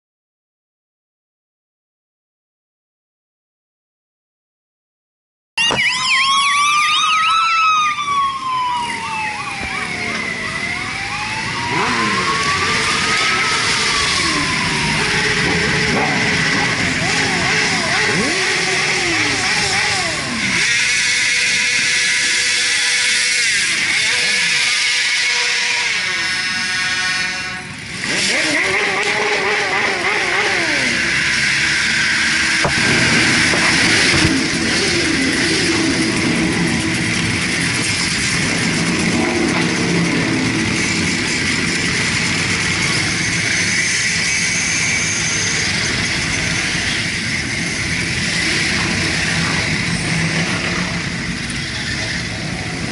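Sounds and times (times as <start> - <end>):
motorcycle engines running: 8.4 - 26.8, 27.7 - 52.9.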